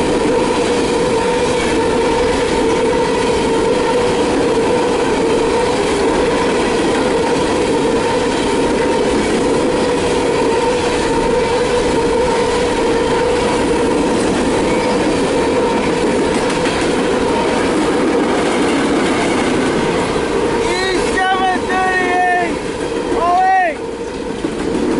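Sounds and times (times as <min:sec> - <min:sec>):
train cars rolling on rails: 0:00.0 - 0:24.9
whine from train wheels: 0:00.0 - 0:24.9.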